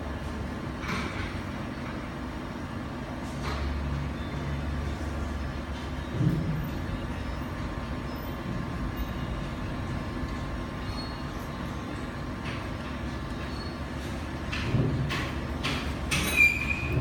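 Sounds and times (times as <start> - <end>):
fans and hot-air blower whirring: 0.0 - 17.0.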